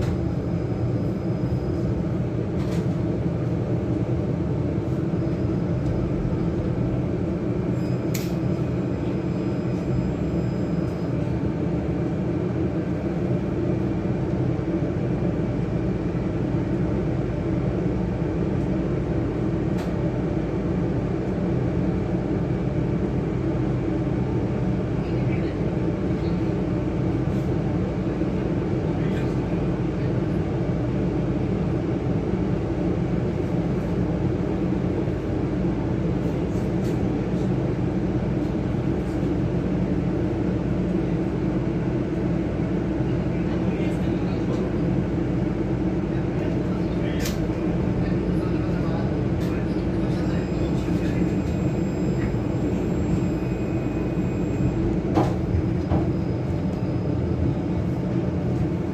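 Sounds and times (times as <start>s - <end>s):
tram running: 0.0s - 58.9s.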